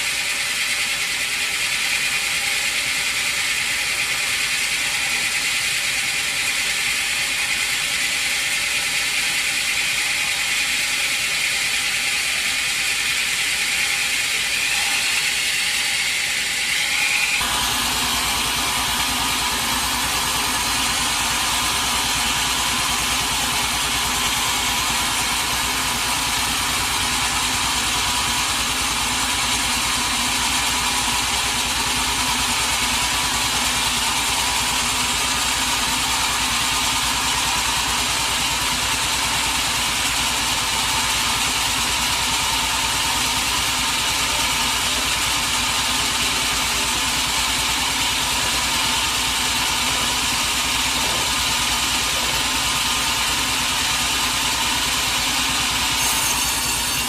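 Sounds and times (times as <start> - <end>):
engine-like running sound: 0.0 - 56.0
sawmill machinery whine and hiss: 0.0 - 57.0.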